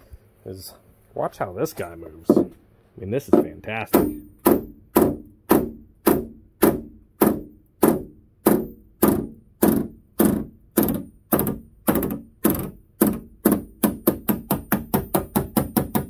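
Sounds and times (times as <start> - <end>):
hammer tapping on metal panel: 2.3 - 2.6, 3.3 - 16.0.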